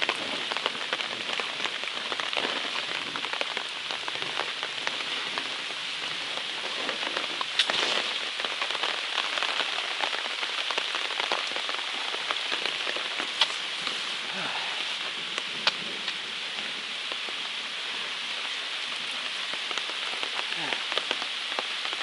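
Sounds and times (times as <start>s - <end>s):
rain falling on leaves: 0.0s - 22.0s.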